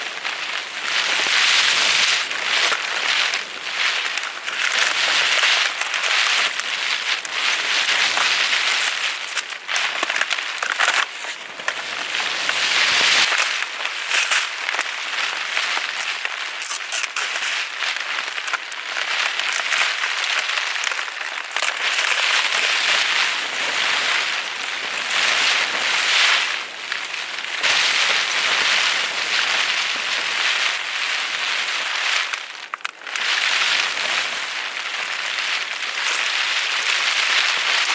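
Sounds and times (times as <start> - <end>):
wind: 0.0 - 37.9.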